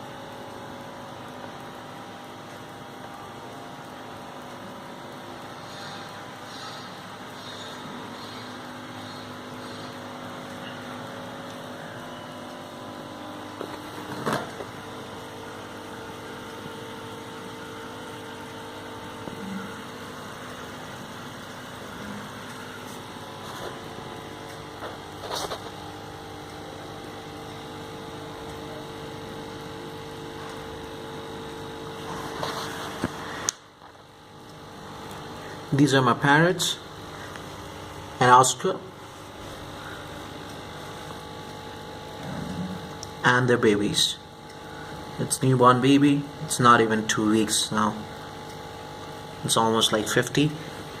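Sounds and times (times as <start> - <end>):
machine hum with tones: 0.0 - 51.0.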